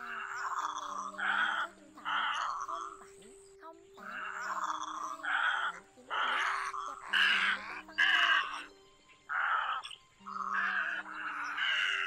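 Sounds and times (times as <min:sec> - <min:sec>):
egrets squawking: 0:00.0 - 0:03.4, 0:04.0 - 0:08.7, 0:09.3 - 0:12.0
background music: 0:00.0 - 0:12.0.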